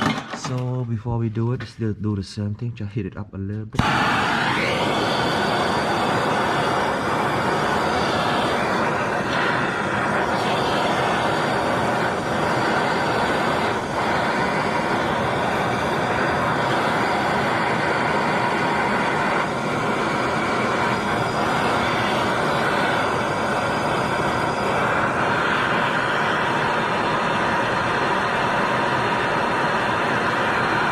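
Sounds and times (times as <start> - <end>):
torch flame hissing: 3.8 - 30.9.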